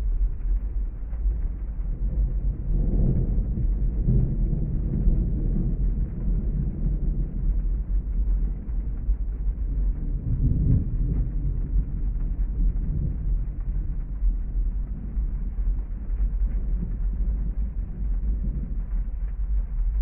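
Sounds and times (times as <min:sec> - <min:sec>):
muffled rain on car: 0:00.0 - 0:20.0.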